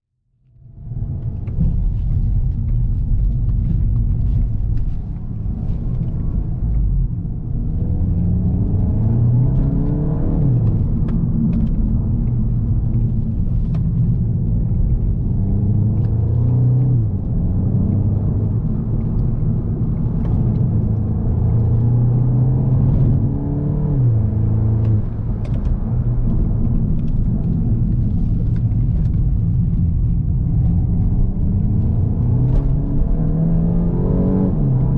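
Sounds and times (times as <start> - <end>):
car engine shifting gears: 0.8 - 34.9.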